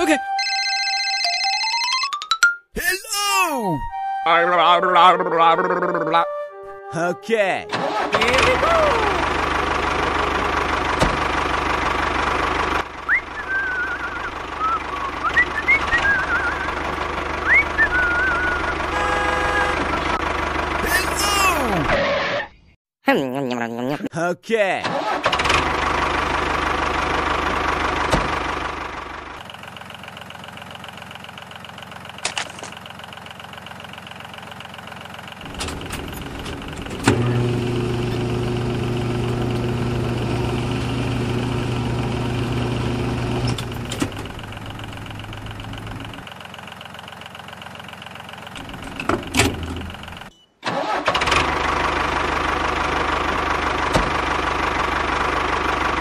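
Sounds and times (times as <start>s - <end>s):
engine running: 3.9s - 6.9s, 7.6s - 22.4s, 24.9s - 56.0s.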